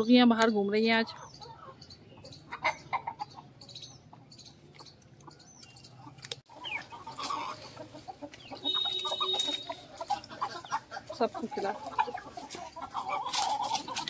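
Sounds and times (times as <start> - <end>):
chickens clucking: 0.3 - 14.0.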